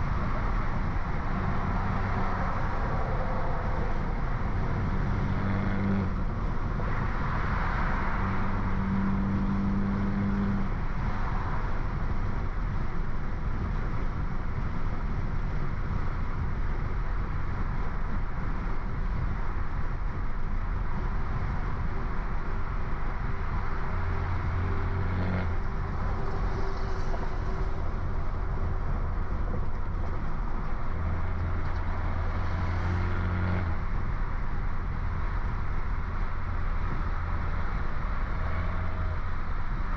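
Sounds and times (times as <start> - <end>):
car exhaust drone: 0.0 - 39.9
road noise: 0.0 - 39.9.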